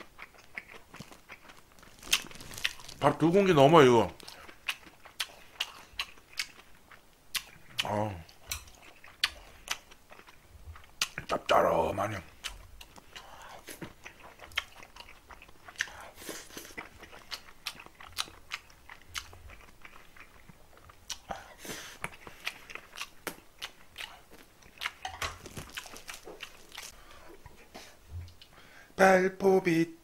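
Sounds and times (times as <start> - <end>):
wet chewing clicks and smacks: 0.0 - 3.1, 4.1 - 11.4, 12.4 - 27.0.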